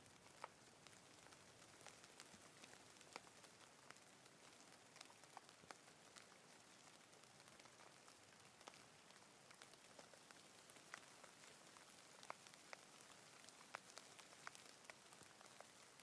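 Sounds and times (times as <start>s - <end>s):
faint rain hiss: 0.0s - 16.0s.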